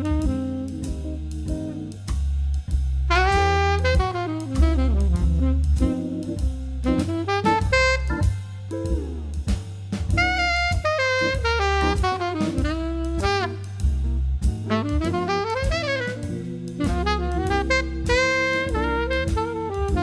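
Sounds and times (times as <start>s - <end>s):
saxophone melody: 0.0s - 2.2s, 3.1s - 9.5s, 10.1s - 20.0s
drum kit: 0.0s - 20.0s
walking bass line: 0.0s - 20.0s.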